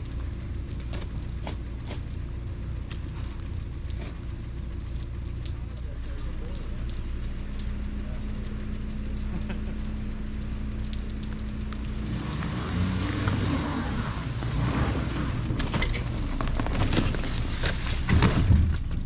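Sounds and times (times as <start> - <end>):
car engine running: 0.0 - 19.0
pouring rain: 0.0 - 19.0.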